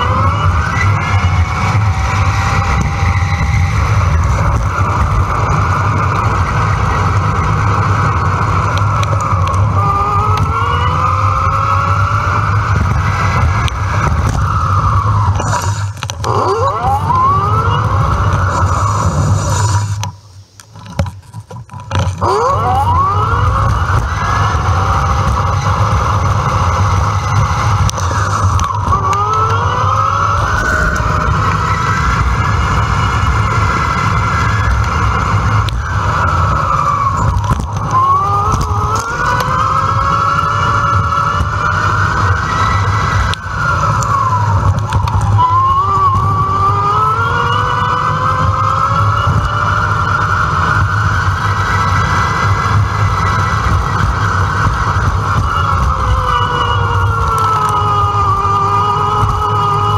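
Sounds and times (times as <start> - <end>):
road traffic: 0.0 - 59.9
whining tones gliding up: 0.0 - 59.9
wind rushing over microphone: 0.0 - 59.9.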